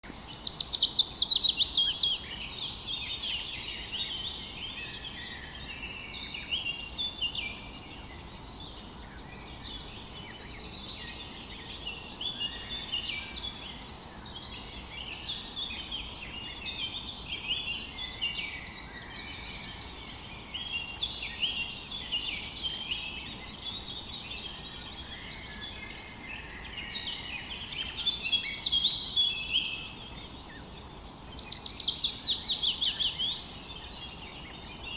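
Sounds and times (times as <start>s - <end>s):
faint steady hiss: 0.0s - 34.9s
songbirds chirping and trilling: 0.0s - 34.9s.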